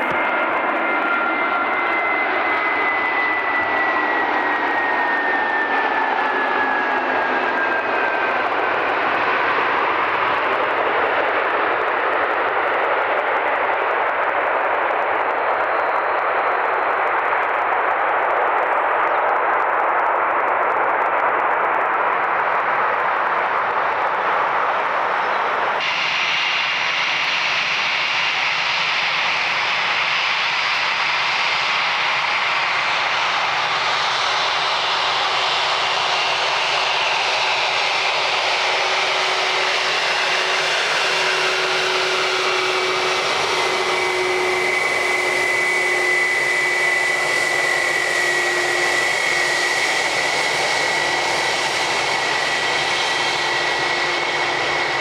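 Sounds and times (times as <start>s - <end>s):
jet engine rush with whine: 0.0s - 55.0s.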